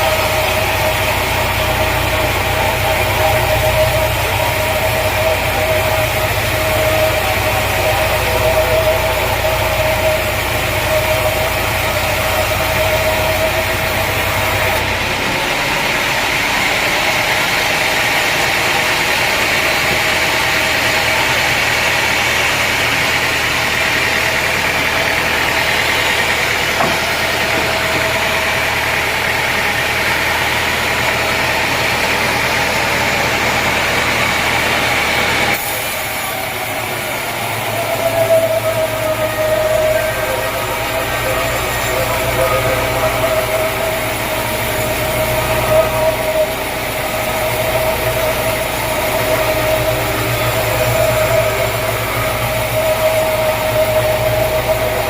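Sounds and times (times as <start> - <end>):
noisy machine running: 0.0 - 55.0
sawmill motor hum with whine: 0.0 - 55.0.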